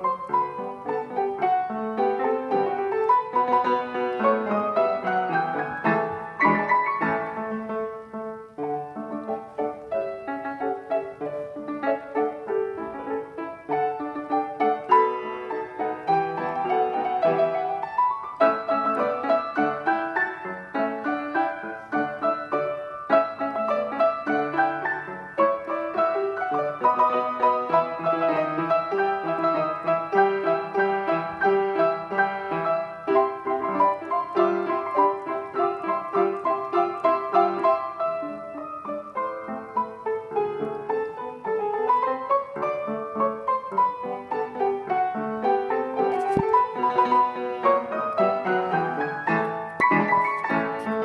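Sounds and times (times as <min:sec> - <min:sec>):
piano duet: 0:00.0 - 0:51.0.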